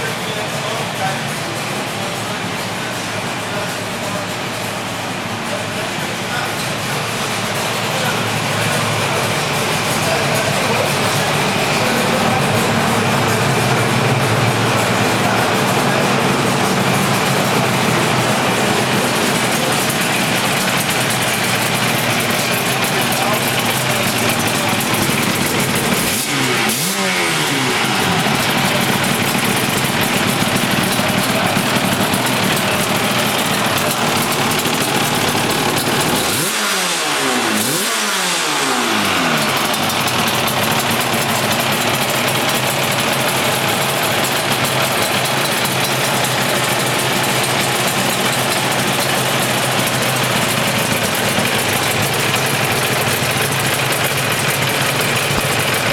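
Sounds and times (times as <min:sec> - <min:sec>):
motorcycle engine idling and revving: 0:00.0 - 0:55.9.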